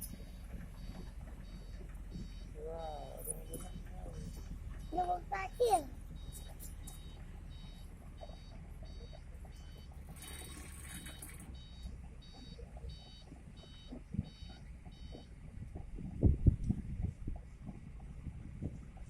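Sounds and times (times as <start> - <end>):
backup alarm beeping: 0.0 - 15.4
low diesel engine rumble: 0.0 - 19.0.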